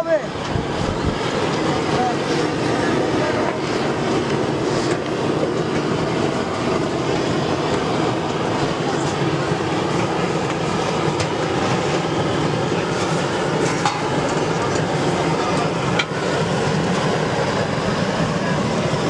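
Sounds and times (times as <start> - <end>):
gas blowtorch running: 0.0 - 19.0.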